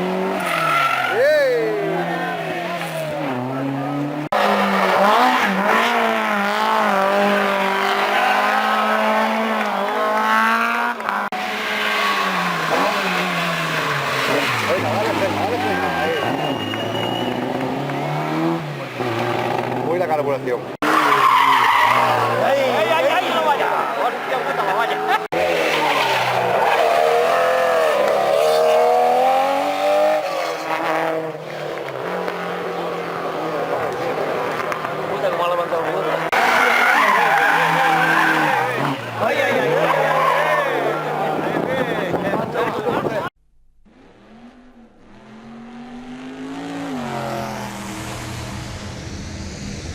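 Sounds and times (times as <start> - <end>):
rally car engine at high revs: 0.0 - 43.1, 43.9 - 49.9.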